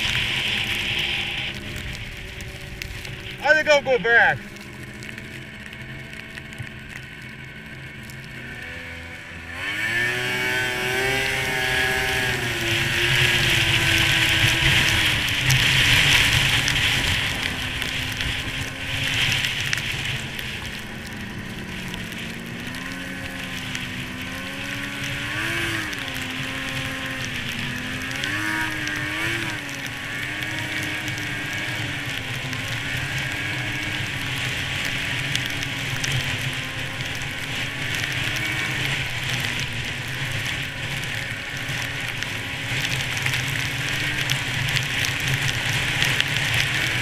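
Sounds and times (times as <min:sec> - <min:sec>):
snowmobile engine revving: 0:00.0 - 0:47.0.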